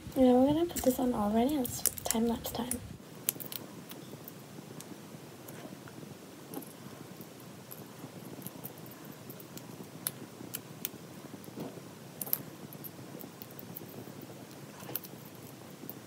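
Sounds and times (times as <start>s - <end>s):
low room noise: 0.0s - 16.0s.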